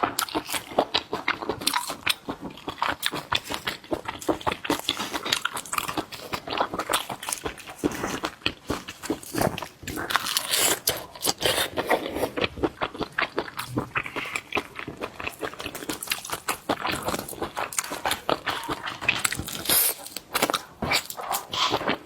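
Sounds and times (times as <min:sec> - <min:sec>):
mouth chewing seafood: 0:00.0 - 0:22.0.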